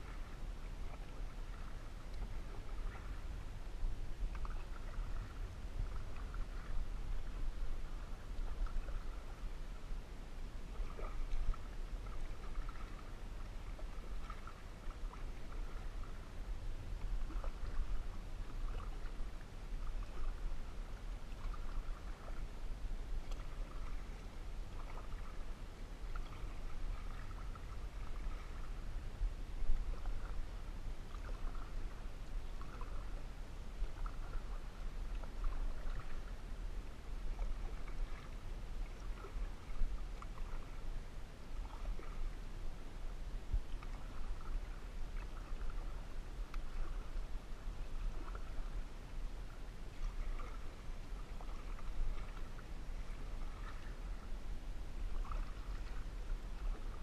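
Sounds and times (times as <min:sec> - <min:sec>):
paddle splashing water: 0:00.0 - 0:57.0
steady low rumble: 0:00.0 - 0:57.0.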